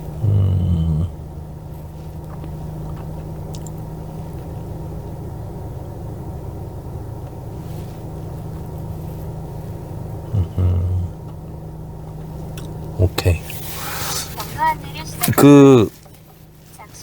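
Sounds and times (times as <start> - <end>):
car rumble from inside cabin: 0.0 - 17.0.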